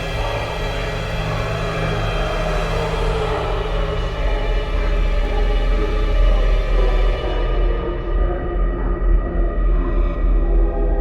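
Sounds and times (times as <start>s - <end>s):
eerie horror music: 0.0s - 11.0s.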